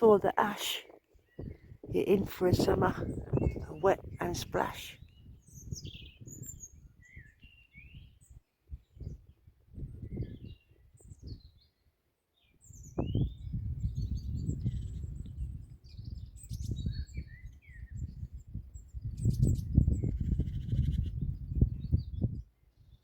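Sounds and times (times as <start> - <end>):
small birds chirping: 0.0 - 23.0
wind buffeting microphone: 1.2 - 11.7, 12.6 - 23.0.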